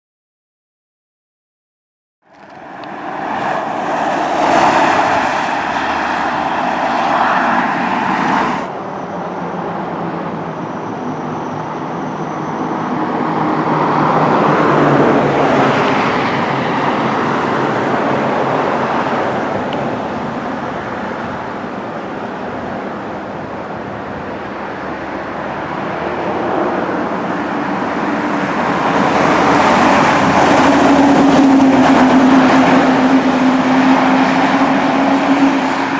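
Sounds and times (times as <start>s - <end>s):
vehicles passing on street: 2.3s - 35.9s.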